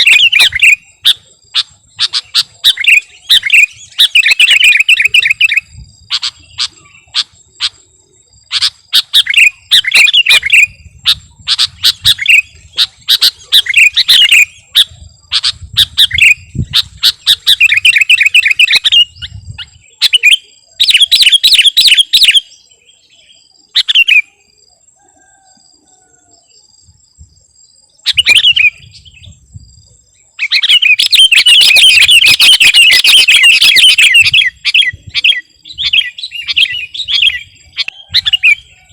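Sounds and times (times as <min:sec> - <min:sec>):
bird singing chirping phrases: 0:00.0 - 0:38.9.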